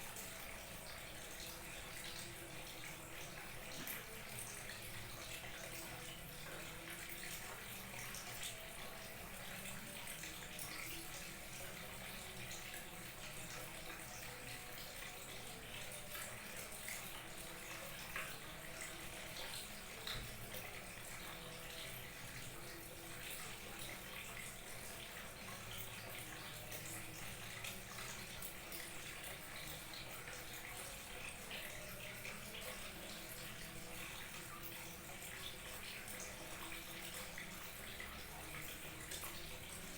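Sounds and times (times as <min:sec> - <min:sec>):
waterfall trickling and splashing: 0:00.0 - 0:39.9.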